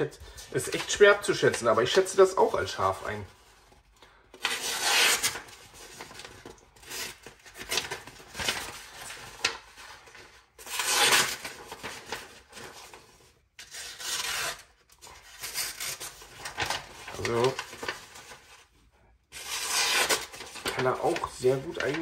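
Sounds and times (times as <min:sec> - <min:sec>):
paper rustling: 0:00.0 - 0:22.0.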